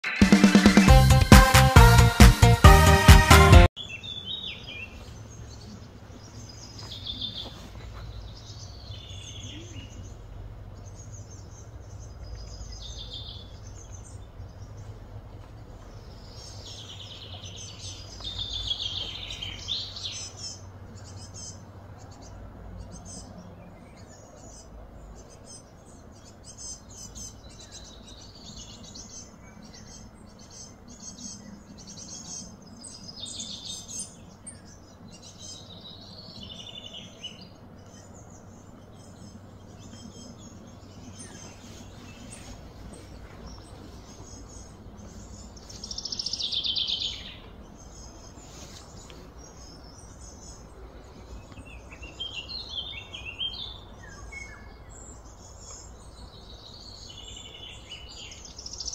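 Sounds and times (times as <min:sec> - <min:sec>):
small birds chirping: 0:03.7 - 0:58.9
low background hum: 0:04.2 - 0:58.9.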